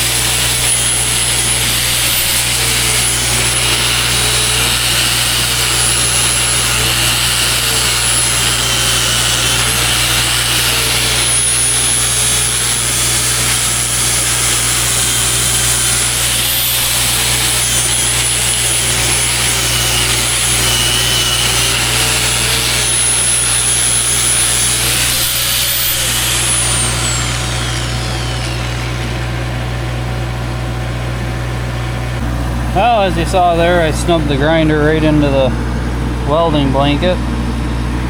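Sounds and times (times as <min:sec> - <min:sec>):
angle grinder winding down: 0:00.0 - 0:37.0
angle grinder grinding metal: 0:00.0 - 0:37.2.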